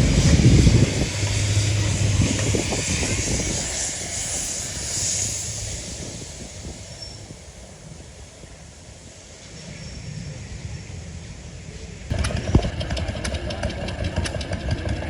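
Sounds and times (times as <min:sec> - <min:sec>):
train engine drone: 0:00.0 - 0:15.0
train rushing hiss: 0:00.0 - 0:15.0.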